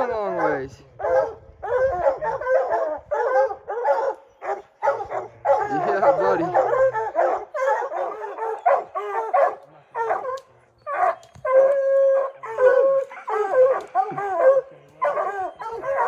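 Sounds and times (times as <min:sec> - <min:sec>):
hounds chop barking: 0:00.1 - 0:16.0
hound bawling: 0:01.8 - 0:16.0.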